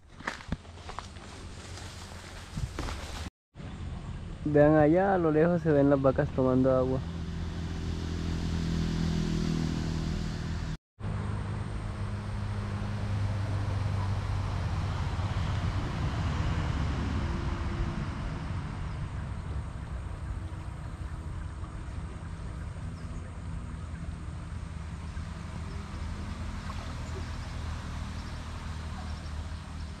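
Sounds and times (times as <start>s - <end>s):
engine humming: 0.9s - 30.0s.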